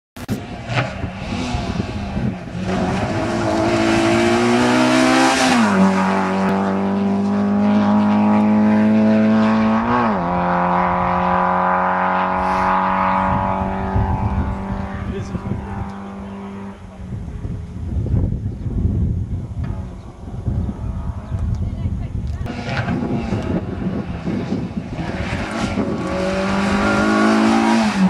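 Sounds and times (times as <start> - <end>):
rally car engine at full throttle: 0.2 - 28.0.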